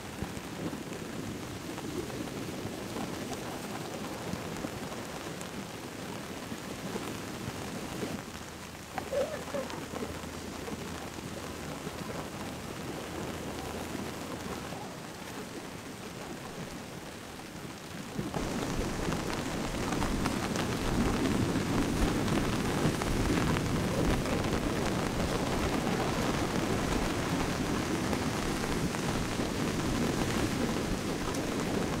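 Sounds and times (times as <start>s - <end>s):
heavy rain pattering: 0.0s - 32.0s.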